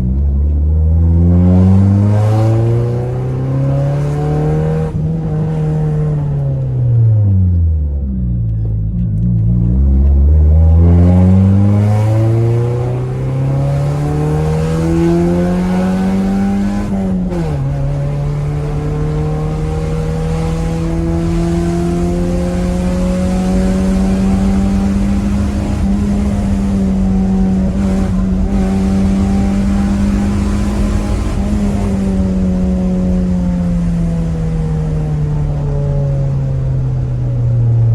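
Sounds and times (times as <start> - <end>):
car engine accelerating hard: 0.0 - 37.9.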